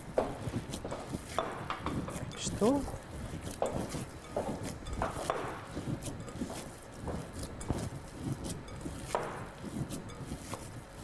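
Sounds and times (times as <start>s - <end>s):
hands kneading meat mixture: 0.0s - 11.0s.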